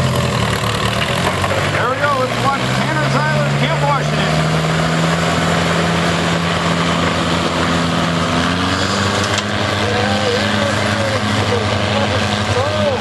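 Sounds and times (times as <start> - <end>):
tractor engine running hard: 0.0 - 13.0.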